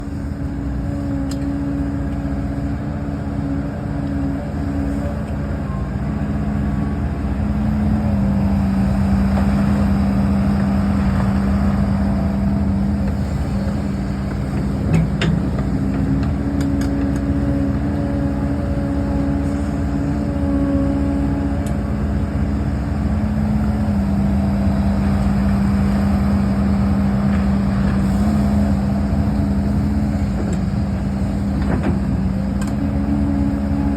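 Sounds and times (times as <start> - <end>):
excavator diesel engine working: 0.0 - 33.9.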